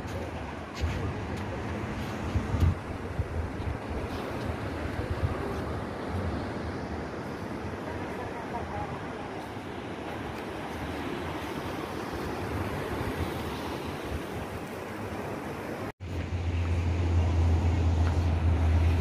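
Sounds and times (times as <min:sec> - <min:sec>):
wind buffeting microphone: 0:00.0 - 0:15.9
ocean surf over rocks: 0:00.0 - 0:16.3.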